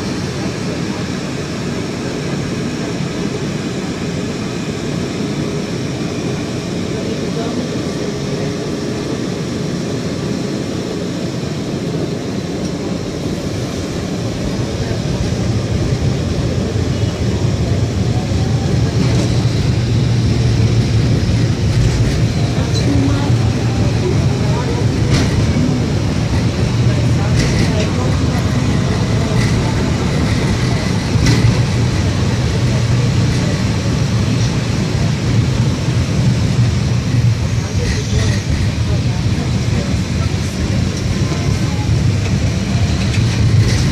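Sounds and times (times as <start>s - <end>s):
tram running on rails: 0.0s - 43.9s.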